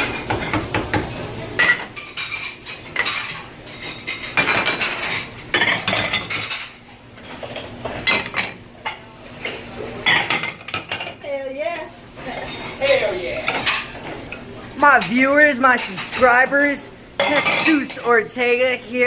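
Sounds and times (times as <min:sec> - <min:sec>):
plates and silverware clattering: 0:00.0 - 0:19.0.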